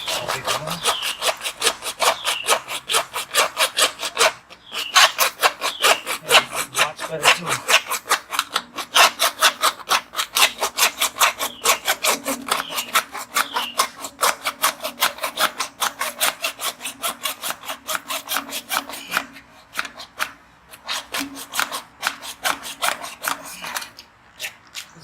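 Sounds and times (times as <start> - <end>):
hand file rasping plastic pipe: 0.0 - 25.0.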